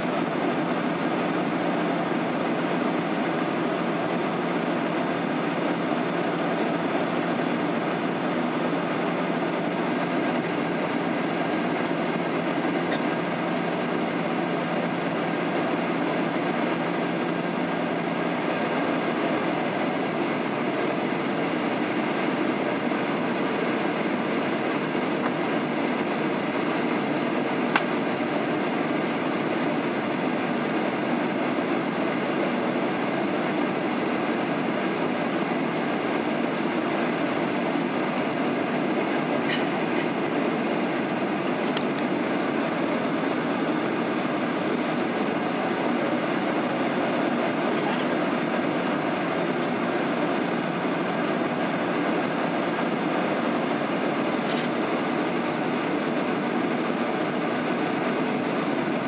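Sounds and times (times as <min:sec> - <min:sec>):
jet engine hum: 0:00.0 - 0:59.0.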